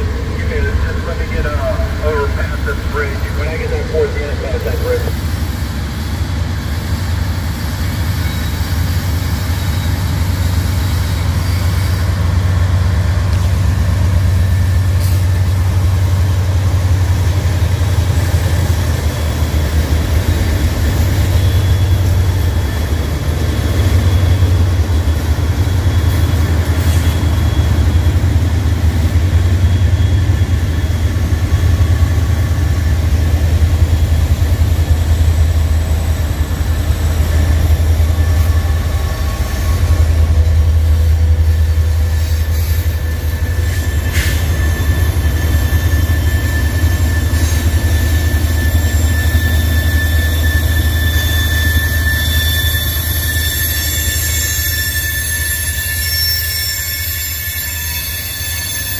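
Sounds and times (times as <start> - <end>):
diesel locomotives passing with low drone: 0.0 - 58.9.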